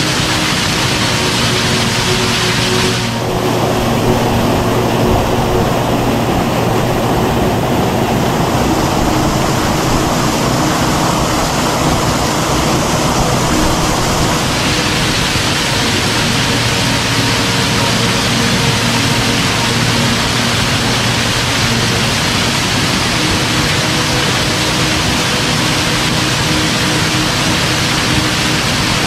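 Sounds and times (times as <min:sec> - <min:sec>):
waterfall splashing into pool: 0:00.0 - 0:29.0.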